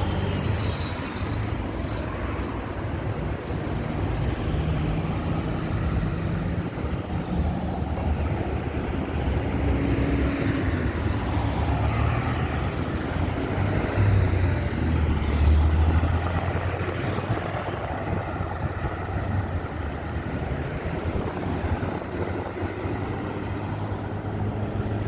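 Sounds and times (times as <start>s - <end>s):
road traffic engine and tyre noise: 0.0s - 25.0s.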